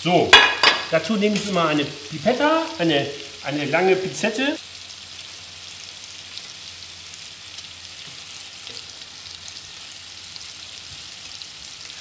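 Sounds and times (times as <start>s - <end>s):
food sizzling in butter: 0.0s - 12.0s.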